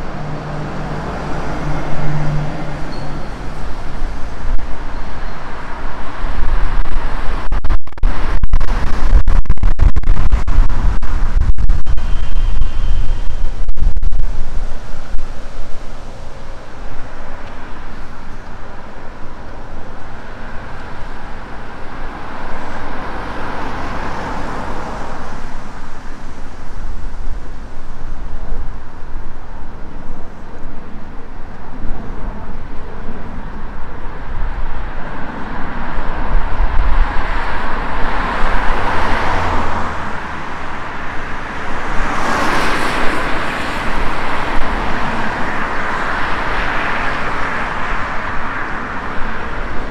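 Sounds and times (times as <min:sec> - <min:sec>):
cars passing: 0:00.0 - 0:49.9
wind rumbling on microphone: 0:00.0 - 0:49.9.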